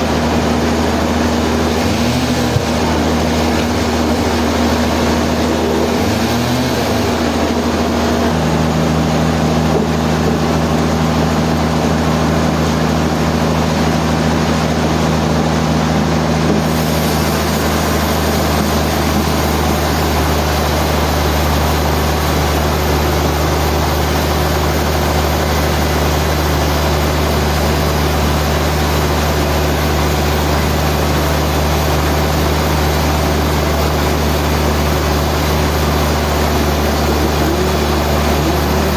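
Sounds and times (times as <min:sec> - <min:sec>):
sawmill machinery humming: 0:00.0 - 0:38.9.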